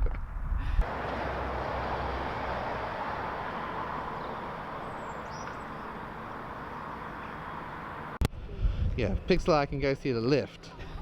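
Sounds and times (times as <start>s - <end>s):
car road and wind noise: 0.0s - 9.9s.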